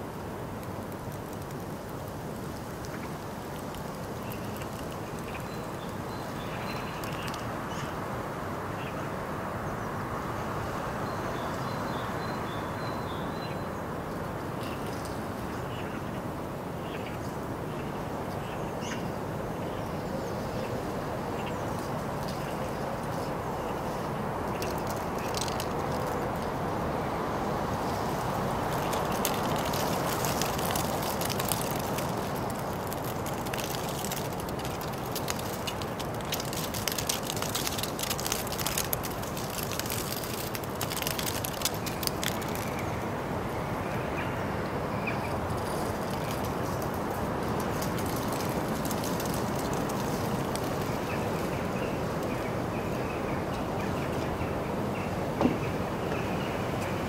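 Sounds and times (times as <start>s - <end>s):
outdoor town background noise: 0.0s - 57.0s.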